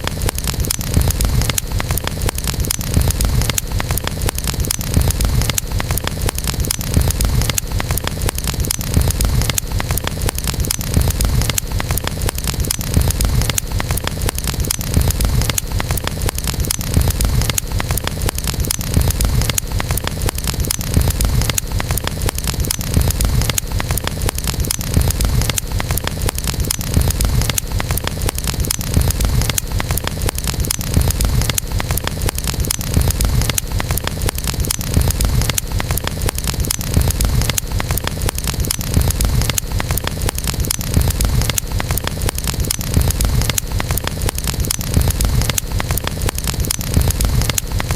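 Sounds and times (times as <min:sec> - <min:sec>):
crackling campfire: 0:00.0 - 0:47.9.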